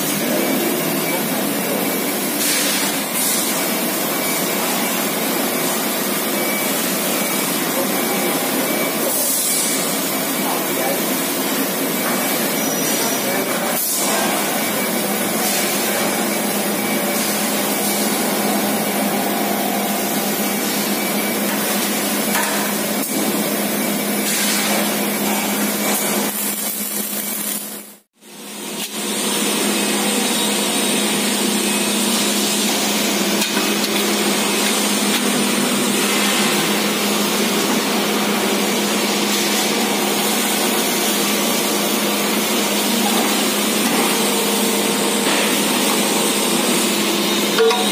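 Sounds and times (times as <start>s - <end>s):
factory machinery din: 0.0s - 47.9s.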